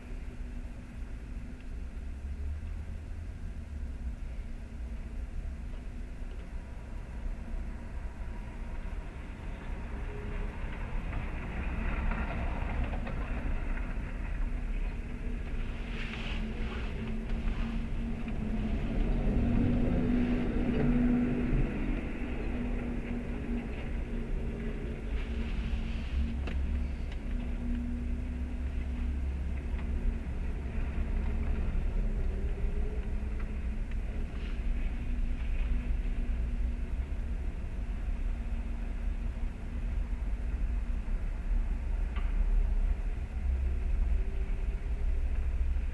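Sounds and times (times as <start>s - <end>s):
low traffic rumble: 0.0s - 45.9s.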